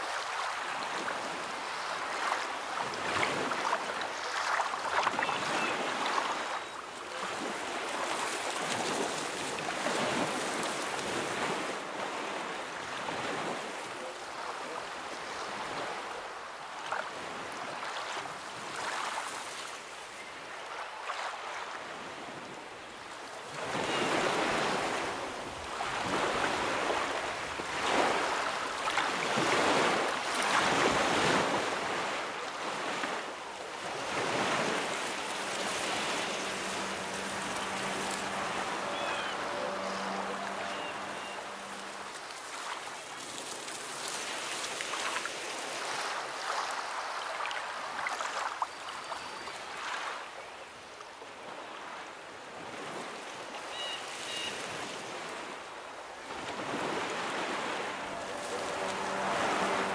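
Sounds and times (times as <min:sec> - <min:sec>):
ocean waves breaking: 0:00.0 - 0:48.6, 0:51.4 - 0:59.9.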